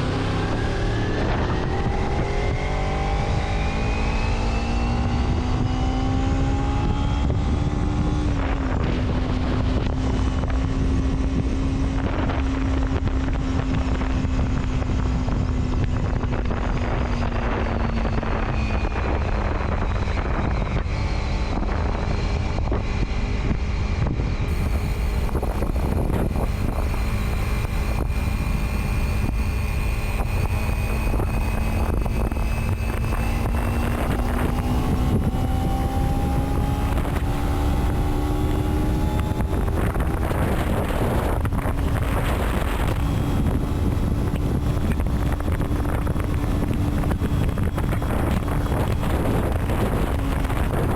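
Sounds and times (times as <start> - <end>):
vehicle engine cruising: 0.0 - 50.9
wind and road noise: 0.0 - 50.9.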